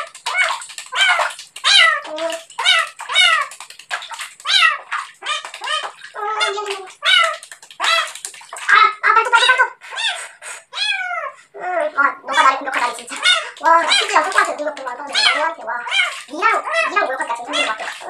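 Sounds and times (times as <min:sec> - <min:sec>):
cat meowing: 0:00.0 - 0:03.6, 0:04.4 - 0:09.0, 0:09.9 - 0:18.0
water sloshing in a basin: 0:00.0 - 0:09.8, 0:11.7 - 0:18.0.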